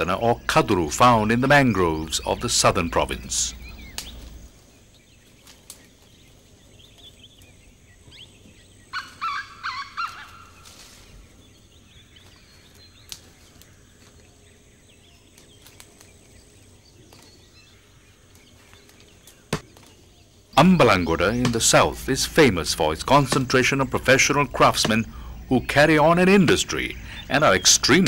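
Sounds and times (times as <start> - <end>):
faint bird chirping: 0.0 - 28.0.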